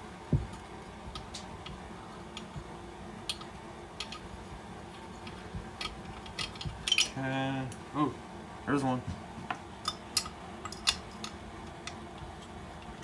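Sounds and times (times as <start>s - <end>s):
steady low background hum: 0.0s - 13.0s.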